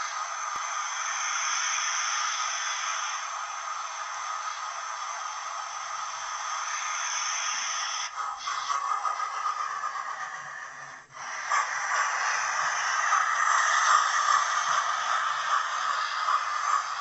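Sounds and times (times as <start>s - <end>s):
steam hissing through small speaker: 0.0s - 17.0s.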